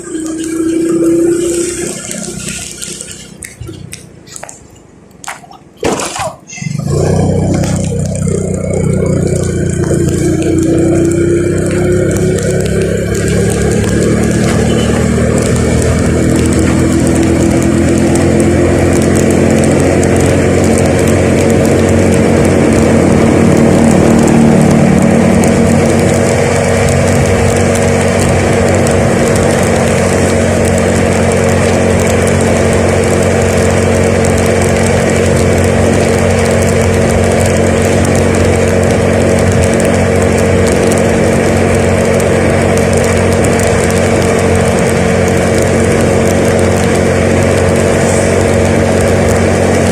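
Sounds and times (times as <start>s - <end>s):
vehicle engine speeding up: 0.0s - 4.5s, 6.7s - 49.9s.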